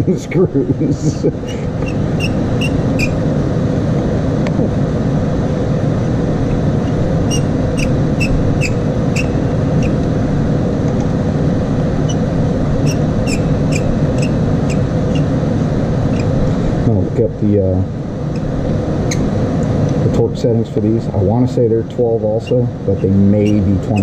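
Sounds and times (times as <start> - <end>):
loud mechanical whir: 0.0 - 20.2.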